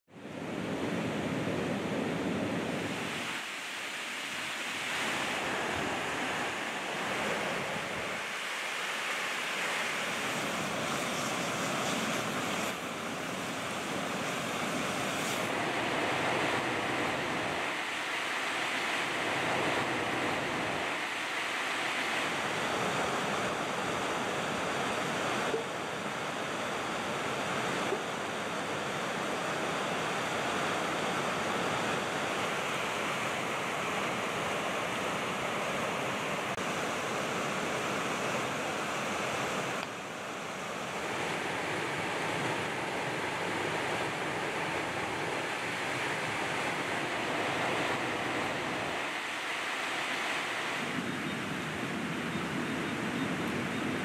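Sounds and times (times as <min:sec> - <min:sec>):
river rushing over rocks: 0:00.2 - 0:52.2.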